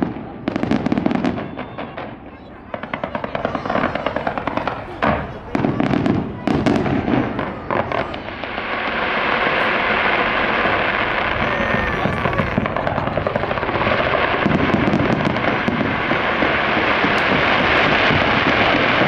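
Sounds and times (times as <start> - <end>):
continuous rush of fireworks noise: 0.0 - 19.0
firework bangs: 0.0 - 19.0.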